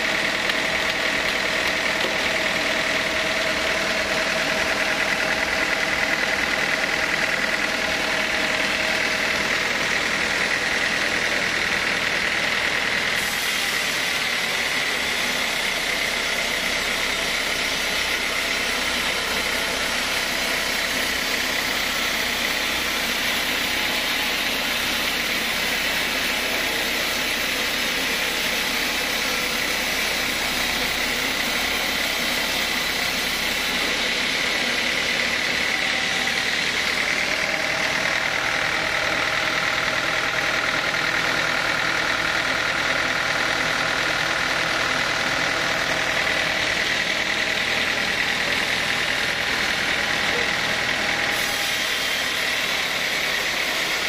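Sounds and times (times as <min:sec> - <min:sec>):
band saw whining: 0:00.0 - 0:54.0.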